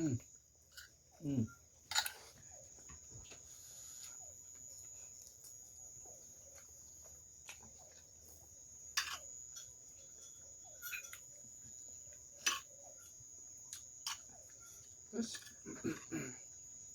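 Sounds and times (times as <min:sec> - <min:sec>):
quiet chewing and mouth smacks: 0:00.1 - 0:15.6.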